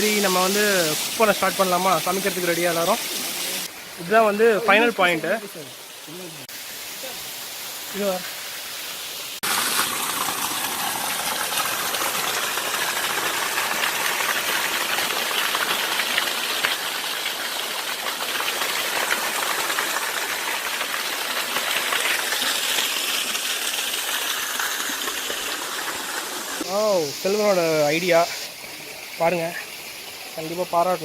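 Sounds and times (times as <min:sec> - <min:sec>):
waterfall splashing: 0:00.0 - 0:31.0.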